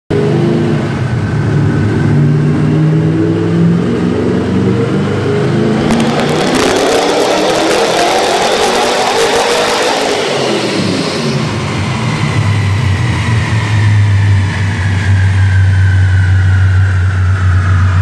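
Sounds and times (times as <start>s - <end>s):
car engine revving on dyno: 0.1s - 18.0s.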